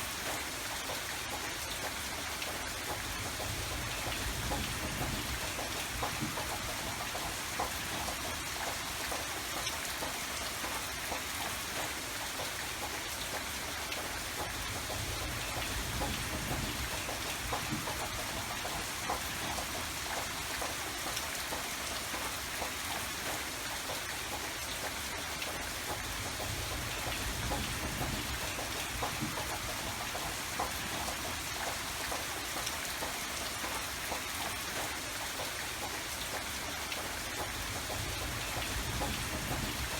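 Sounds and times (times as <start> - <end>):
gentle rain: 0.0 - 39.9
raindrops ticking close by: 0.0 - 39.9.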